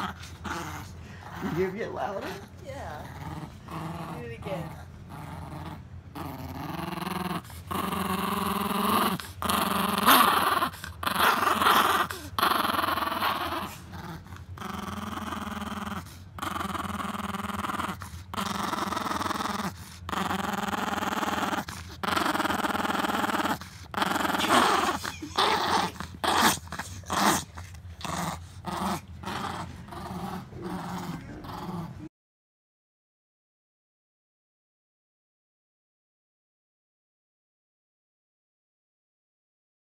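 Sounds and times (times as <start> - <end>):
small dog growling: 0.0 - 32.1.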